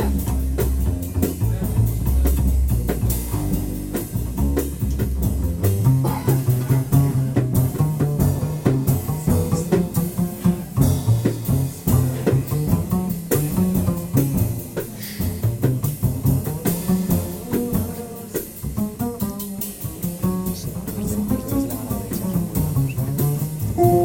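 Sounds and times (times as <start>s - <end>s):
bass line: 0.0s - 24.0s
drum and cymbal strikes: 0.0s - 24.0s
jazz band music: 0.0s - 24.0s.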